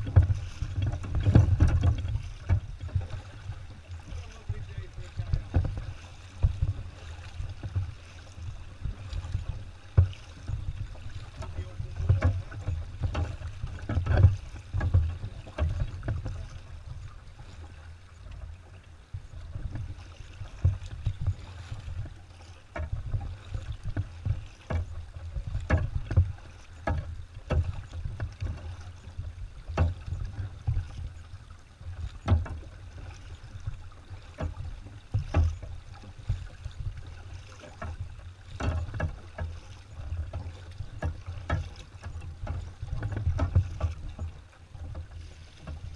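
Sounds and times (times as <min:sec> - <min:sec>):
kayak paddle splashing: 0:00.0 - 0:45.9.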